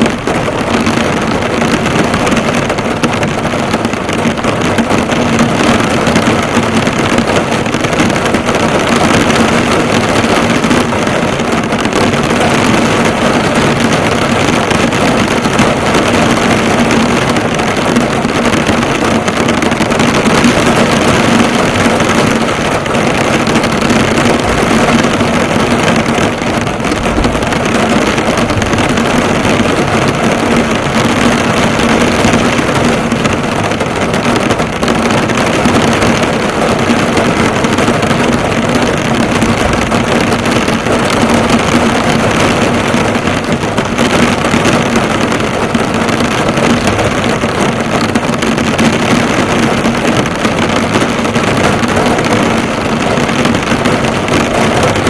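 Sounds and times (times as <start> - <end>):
heavy rain drumming on car: 0.0 - 55.0.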